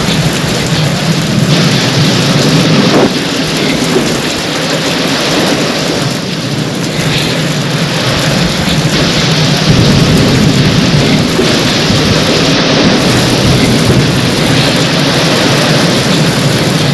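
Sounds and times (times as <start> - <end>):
heavy rain: 0.0 - 16.9
low thunder rumble: 0.0 - 16.9.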